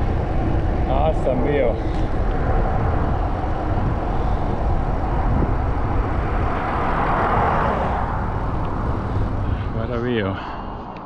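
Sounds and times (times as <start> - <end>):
vehicle passing: 0.0 - 11.0
wind rumble on microphone: 0.0 - 11.0.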